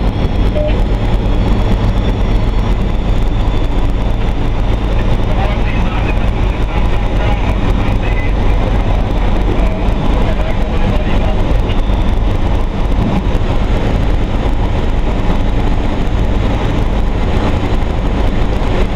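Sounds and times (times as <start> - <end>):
diesel railcar engine drone: 0.0 - 18.9
train rumble in motion: 0.0 - 18.9.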